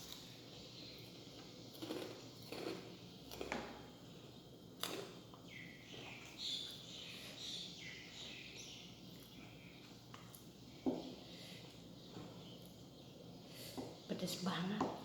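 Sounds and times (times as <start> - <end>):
close eating noises: 0.0 - 15.0.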